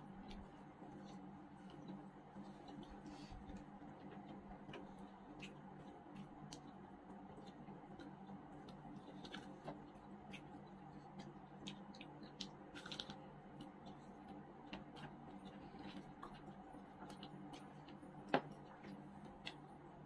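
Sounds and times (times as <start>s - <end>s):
low steady hum: 0.0s - 20.0s
chewing chicken wings: 0.2s - 20.0s.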